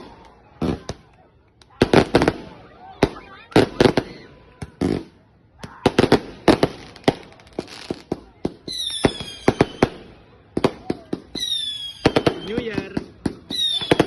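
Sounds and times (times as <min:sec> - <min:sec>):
fireworks banging: 0:00.0 - 0:14.0
whistling firework: 0:00.0 - 0:14.0.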